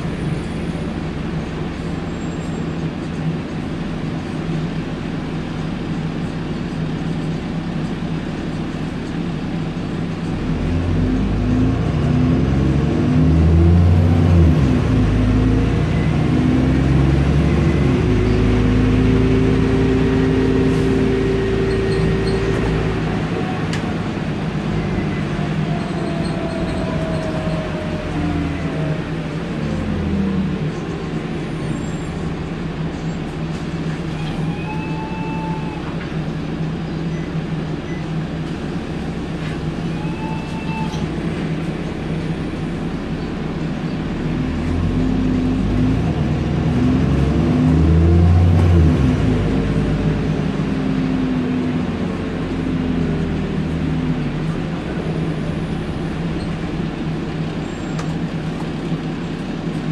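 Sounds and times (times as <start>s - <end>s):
bus engine and drivetrain: 0.0s - 59.9s.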